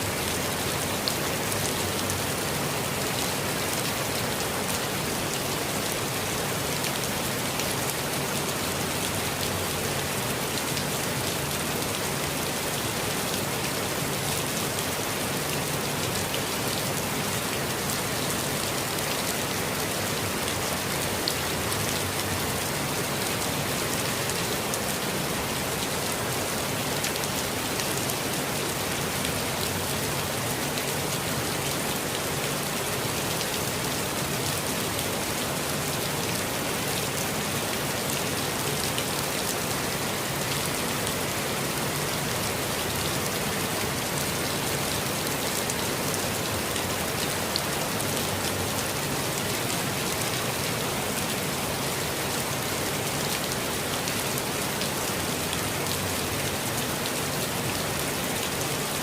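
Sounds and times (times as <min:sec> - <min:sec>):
rain hiss: 0:00.0 - 0:59.0
rain patter on leaves: 0:00.0 - 0:59.0.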